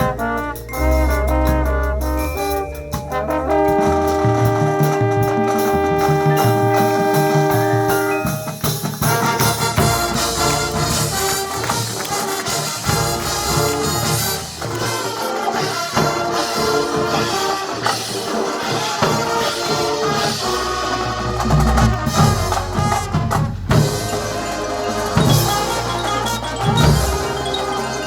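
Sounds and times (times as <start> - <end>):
school band playing: 0.0 - 28.0.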